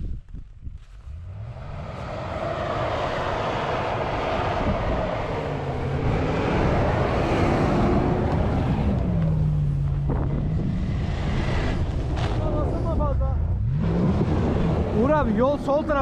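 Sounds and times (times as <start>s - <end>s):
tyres churning snow: 0.8s - 16.0s.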